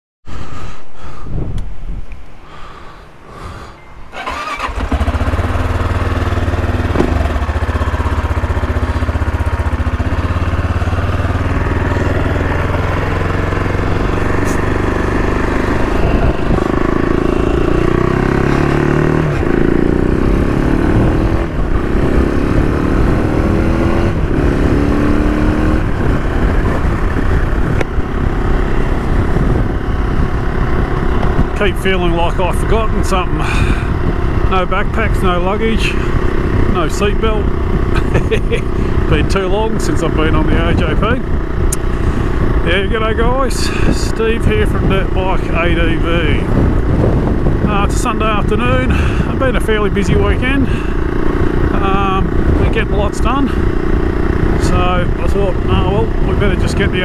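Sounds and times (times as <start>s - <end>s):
motorcycle engine starting and idling: 3.5s - 57.0s
motorcycle revving through gears: 4.1s - 57.0s.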